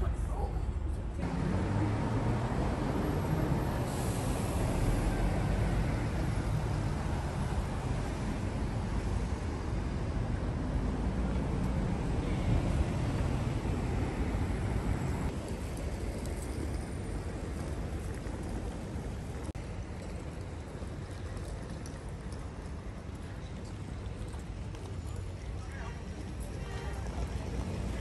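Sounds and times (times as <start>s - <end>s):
road vehicles rumbling: 0.0s - 28.0s.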